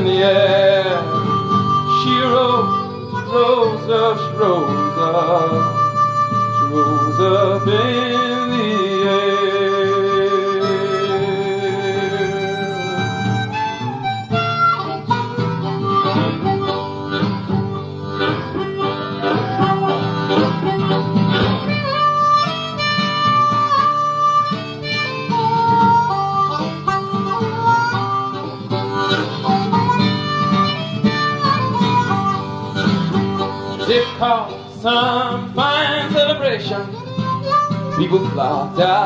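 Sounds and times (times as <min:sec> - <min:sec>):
guitar accompaniment: 0:00.0 - 0:39.0
harmonica melody: 0:00.0 - 0:39.0.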